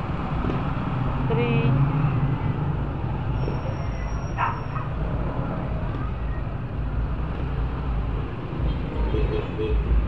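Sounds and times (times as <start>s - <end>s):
roadside traffic rumble: 0.0s - 10.0s.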